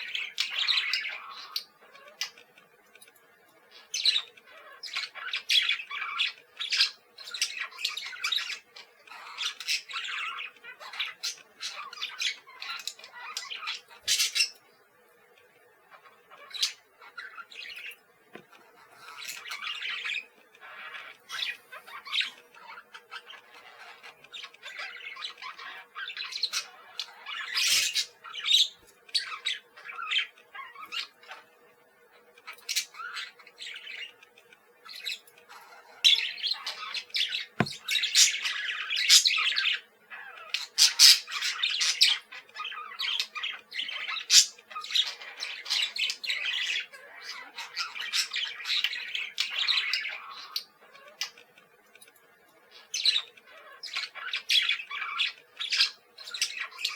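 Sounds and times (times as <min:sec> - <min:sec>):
parakeet chattering and squawking: 0:00.0 - 0:02.6, 0:03.7 - 0:14.8, 0:15.4 - 0:56.9.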